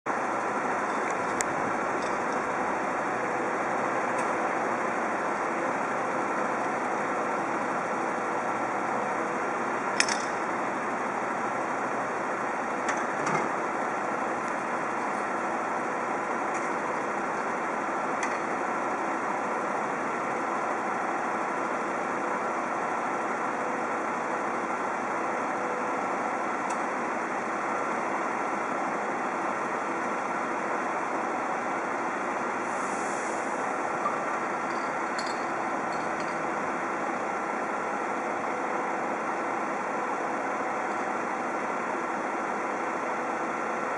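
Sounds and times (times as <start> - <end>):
truck engine and machinery drone: 0.1 - 43.9.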